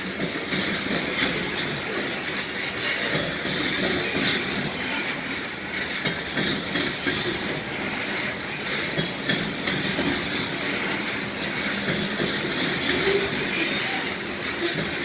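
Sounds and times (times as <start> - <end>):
steel wheels on rails: 0.0 - 15.0.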